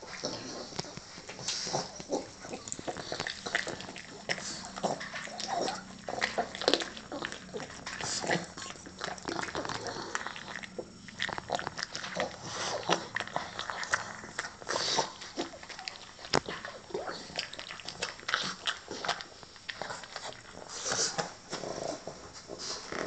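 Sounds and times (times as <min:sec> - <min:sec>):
dog chewing food: 0:00.0 - 0:23.0.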